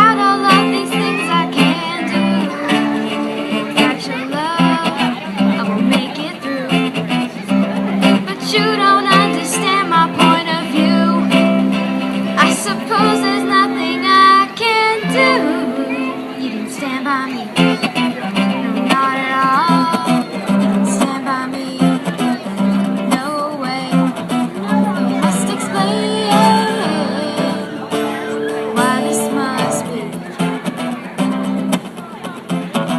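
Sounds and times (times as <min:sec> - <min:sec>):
person singing: 0:00.0 - 0:30.7
guitar strumming: 0:00.0 - 0:32.9.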